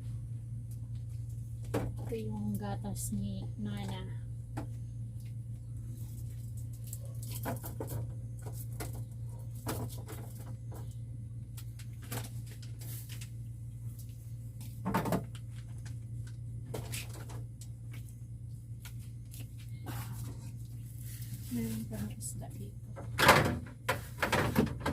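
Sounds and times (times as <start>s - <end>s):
refrigerator compressor humming: 0.0s - 24.9s.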